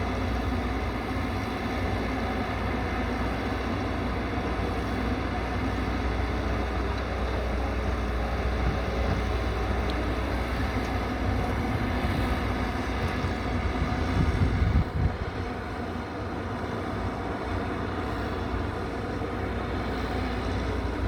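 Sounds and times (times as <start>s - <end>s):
excavator engine droning: 0.0s - 21.0s.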